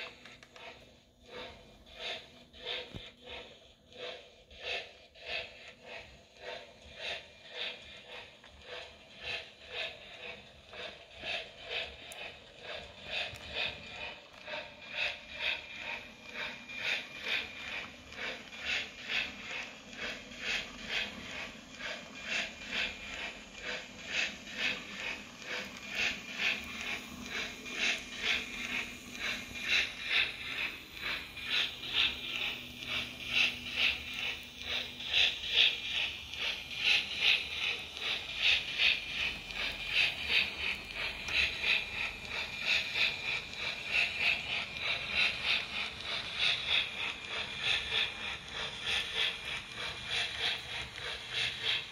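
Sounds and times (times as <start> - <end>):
model steam locomotive hissy beats: 0.0 - 51.9.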